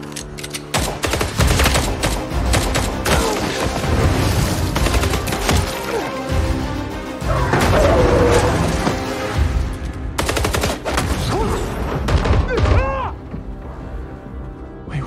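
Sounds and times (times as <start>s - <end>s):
dramatic music score: 0.0s - 15.0s.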